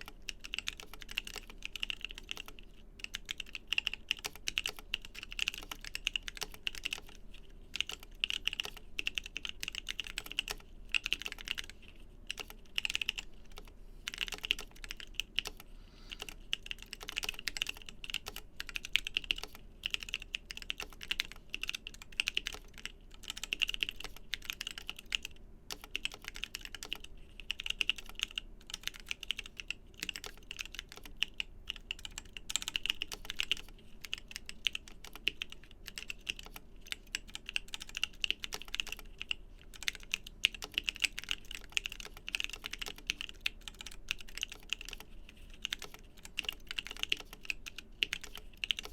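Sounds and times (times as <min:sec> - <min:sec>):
fast mechanical keyboard typing: 0:00.0 - 0:48.9.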